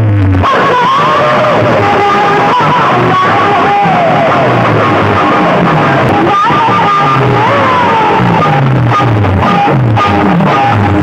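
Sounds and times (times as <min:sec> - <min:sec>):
loud music over loudspeakers: 0:00.0 - 0:11.0.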